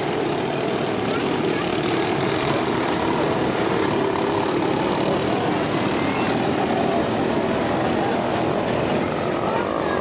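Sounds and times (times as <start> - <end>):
small race car engines buzzing: 0.0 - 10.0.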